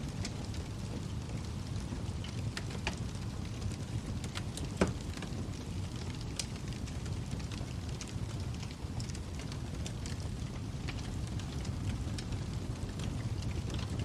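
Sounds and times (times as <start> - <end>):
low rumble of flames: 0.0 - 14.0.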